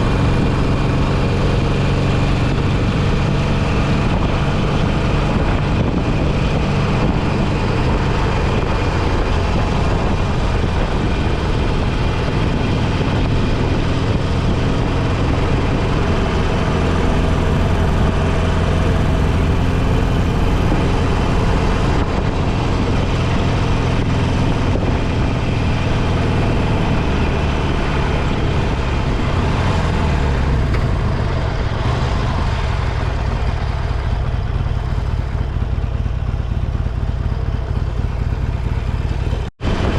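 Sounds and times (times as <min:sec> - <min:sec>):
motorcycle engine running: 0:00.0 - 0:39.9
road rush: 0:00.0 - 0:39.9
wind: 0:00.0 - 0:39.9.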